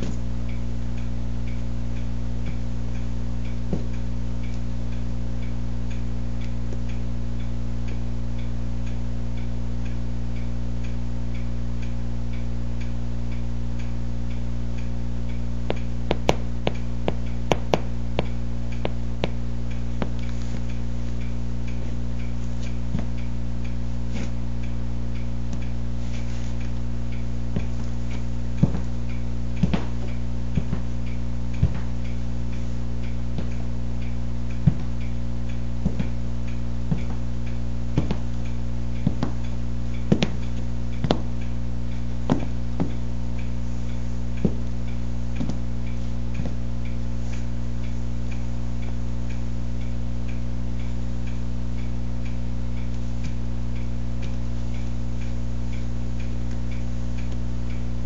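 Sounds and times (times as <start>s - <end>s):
faint regular ticking: 0.0s - 58.0s
steady low hum: 0.0s - 58.0s.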